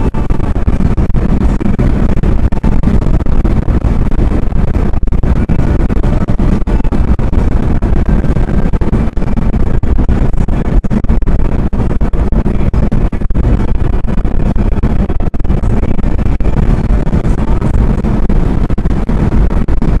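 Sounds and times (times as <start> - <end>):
car road and wind noise: 0.0 - 20.0.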